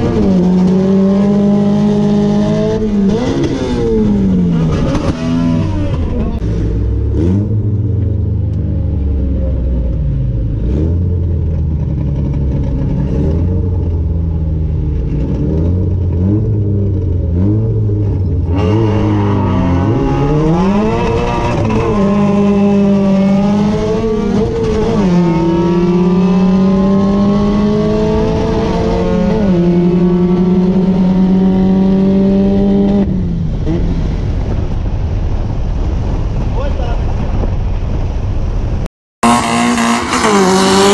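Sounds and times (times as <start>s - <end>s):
car engine accelerating hard: 0.0s - 33.9s, 39.2s - 40.9s
car engine idling and revving: 0.0s - 40.9s.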